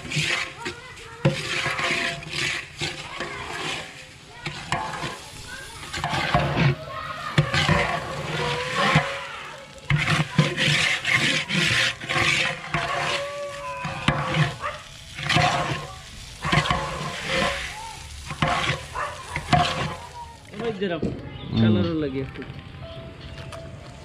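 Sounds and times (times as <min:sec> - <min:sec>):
metal spatula scraping pot: 0:00.0 - 0:20.8
rice sizzling in oil: 0:00.0 - 0:21.0.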